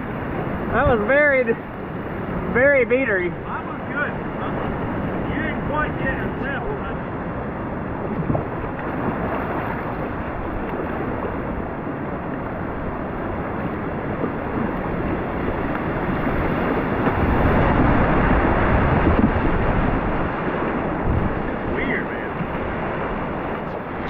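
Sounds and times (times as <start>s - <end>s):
river whitewater rushing: 0.0s - 24.0s.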